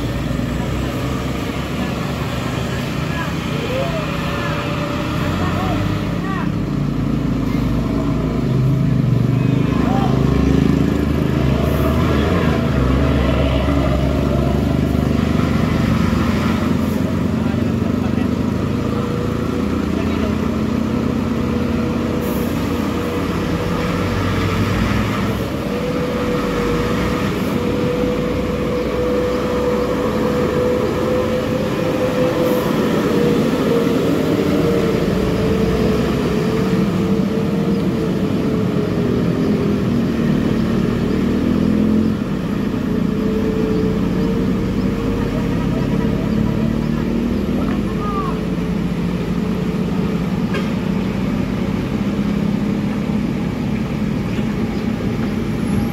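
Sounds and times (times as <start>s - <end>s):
truck diesel engine pulling hard: 0.0s - 55.9s.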